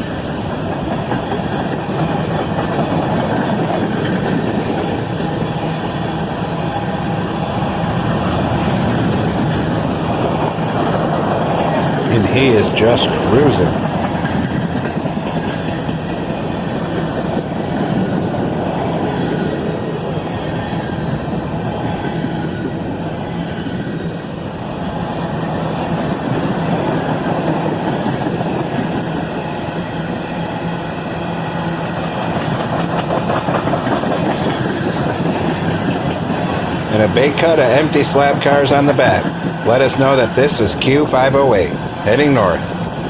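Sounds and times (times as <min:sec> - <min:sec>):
wheels clickety-clack: 0:00.0 - 0:12.2, 0:12.9 - 0:42.0
train wheels rumbling on rails: 0:00.0 - 0:43.0.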